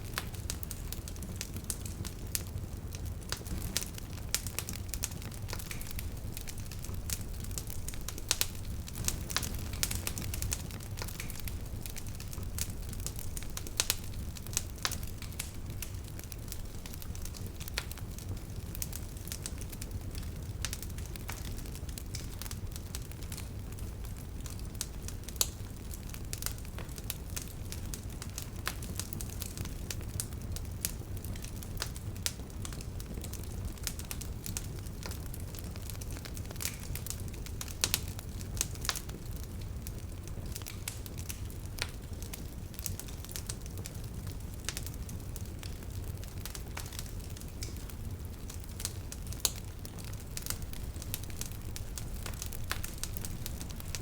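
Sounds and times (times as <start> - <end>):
bonfire crackling and popping: 0.0 - 54.0
low rumble of fire: 0.0 - 54.0.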